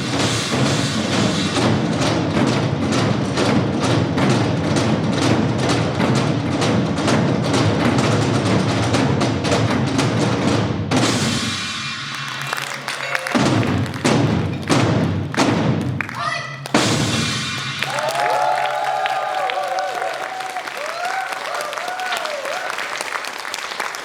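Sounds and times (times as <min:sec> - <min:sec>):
many drums in fast rhythm: 0:00.0 - 0:20.1.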